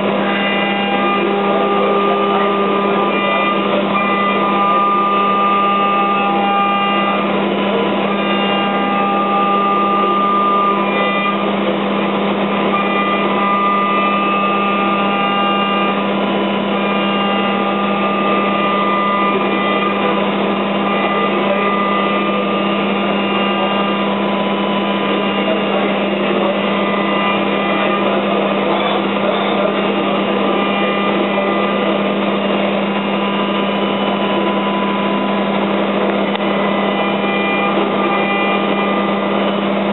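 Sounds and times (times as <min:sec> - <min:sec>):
high whining tones: 0:00.0 - 0:39.9
machine hum: 0:00.0 - 0:39.9.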